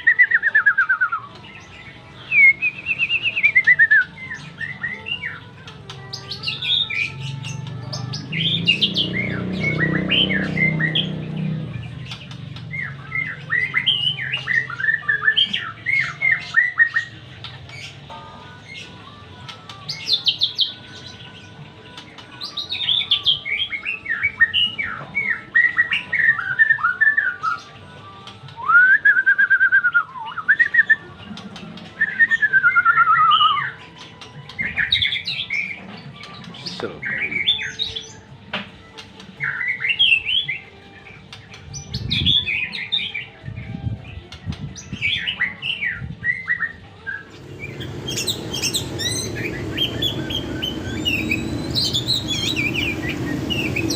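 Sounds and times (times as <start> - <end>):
songbird whistles and trills: 0.0 - 53.9.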